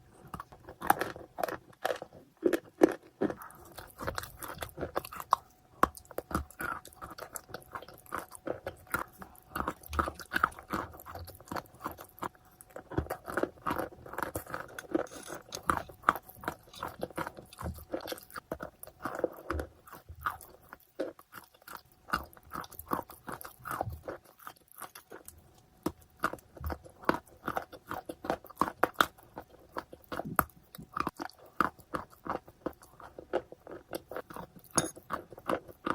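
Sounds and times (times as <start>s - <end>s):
person chewing crunchy food: 0.0s - 35.9s.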